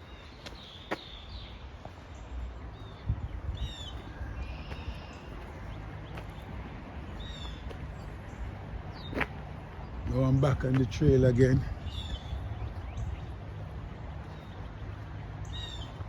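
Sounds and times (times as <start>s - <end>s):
small birds chirping: 0.0s - 16.0s
steady low rumble: 1.3s - 16.0s.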